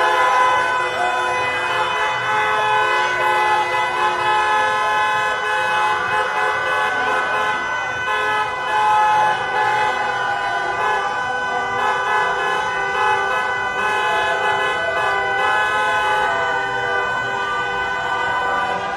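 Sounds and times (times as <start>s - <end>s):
car horns honking: 0.0s - 18.9s
crowd cheering: 0.0s - 18.9s.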